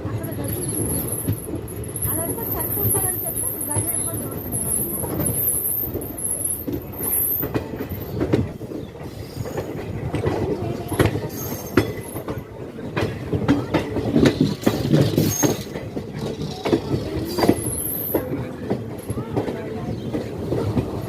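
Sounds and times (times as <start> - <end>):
train coaches rumbling on track: 0.0 - 21.0
wheels clicking over rail joints: 0.1 - 21.0.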